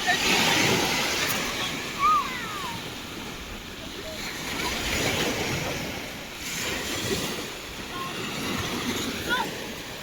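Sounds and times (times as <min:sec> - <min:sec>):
sea waves washing on beach: 0:00.0 - 0:10.0.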